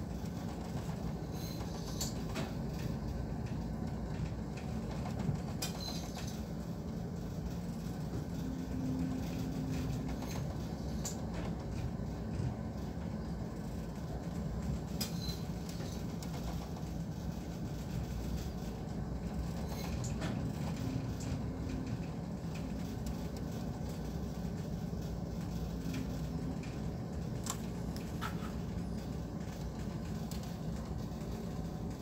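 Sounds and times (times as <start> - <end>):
ship engine drone: 5.6 - 32.0.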